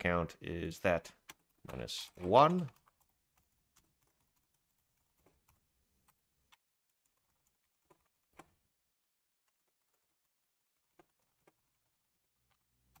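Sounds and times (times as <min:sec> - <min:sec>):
faint keyboard typing: 0:00.9 - 0:13.0.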